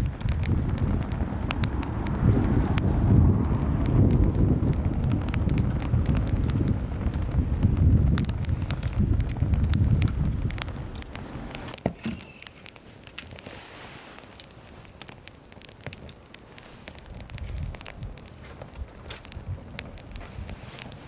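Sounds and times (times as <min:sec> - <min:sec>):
wind rumble on microphone: 0:00.0 - 0:11.8, 0:14.4 - 0:21.0
wood fire crackling: 0:00.0 - 0:21.0.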